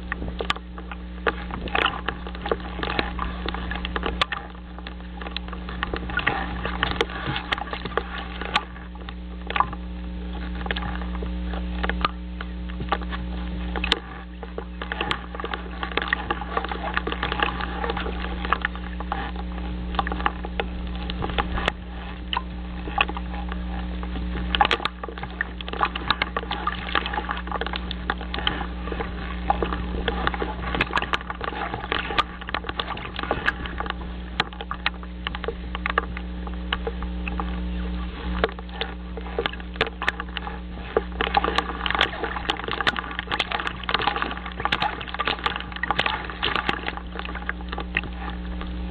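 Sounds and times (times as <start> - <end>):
irregular crackling and clicking: 0.0 - 48.9
low electrical hum: 0.0 - 48.9.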